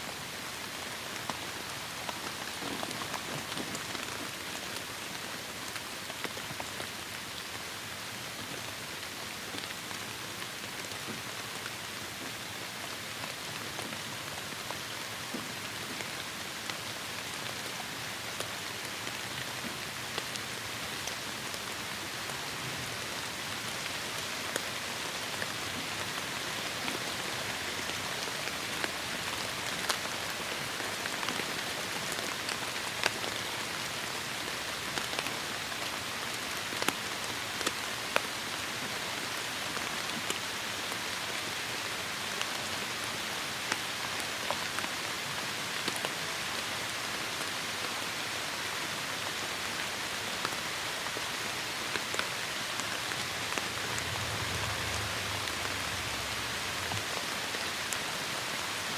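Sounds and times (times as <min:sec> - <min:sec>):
heavy rain: 0:00.1 - 0:58.9.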